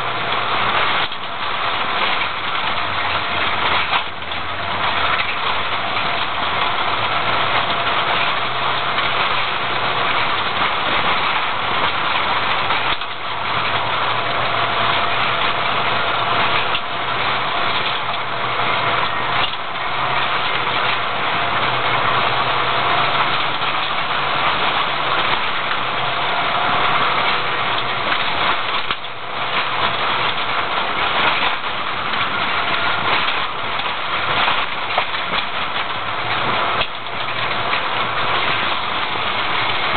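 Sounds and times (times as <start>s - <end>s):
tyre noise on unpaved track: 0.0s - 39.9s.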